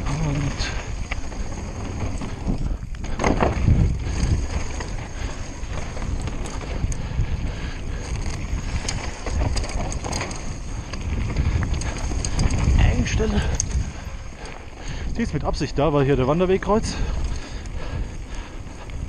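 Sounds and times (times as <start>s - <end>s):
bike clicks and rattles: 0.0s - 19.0s
tyres rumbling over dirt: 0.0s - 19.0s
wind on microphone: 0.0s - 19.0s.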